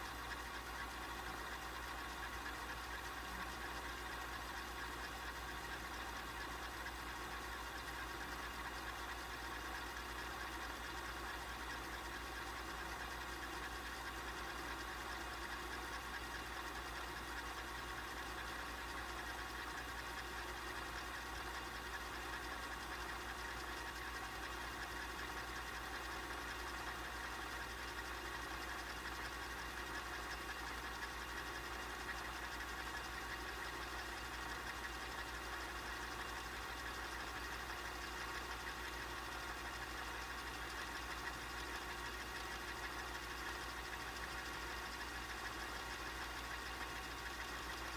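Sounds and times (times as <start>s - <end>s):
tape rewinding mechanical whir: 0.0s - 47.9s.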